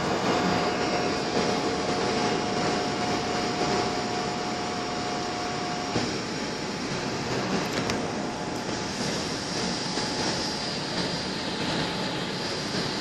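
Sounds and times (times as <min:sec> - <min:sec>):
jet engine cabin rumble: 0:00.0 - 0:13.0
thin steady whine: 0:00.0 - 0:13.0.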